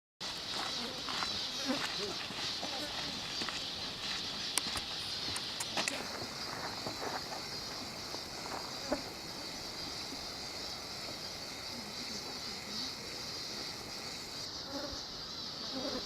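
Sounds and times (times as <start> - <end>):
high-pitched chirping chorus: 0.2 - 16.0.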